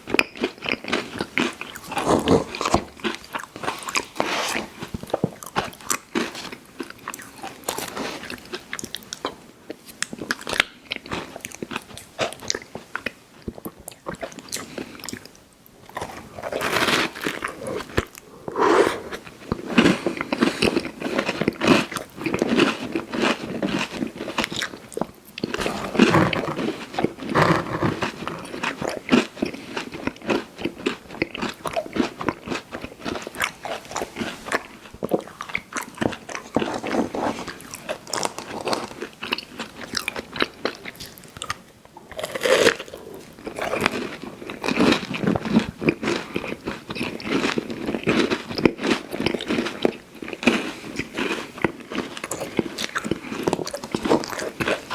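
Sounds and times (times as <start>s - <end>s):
chewing and crunching candy: 0.0s - 54.9s.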